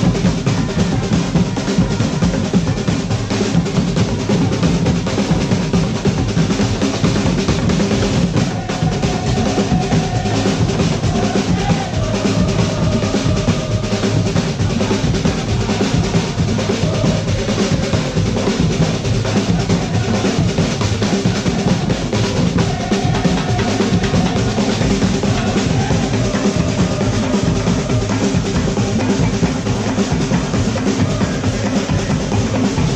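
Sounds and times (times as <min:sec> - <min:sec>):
percussion band drumming: 0:00.0 - 0:32.9.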